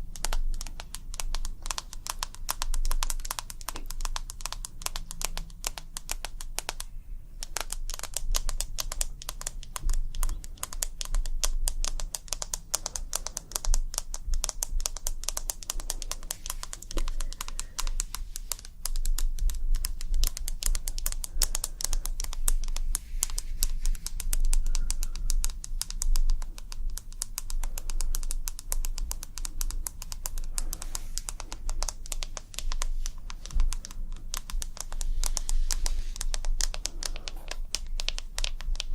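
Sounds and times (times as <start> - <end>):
rapid light tapping: 0.0 - 38.9.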